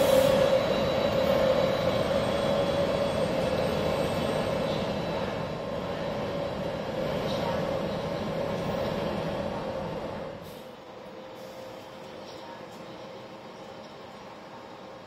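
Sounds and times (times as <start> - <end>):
electric locomotive whine: 0.0 - 15.0
rolling rumble of train: 0.0 - 15.0.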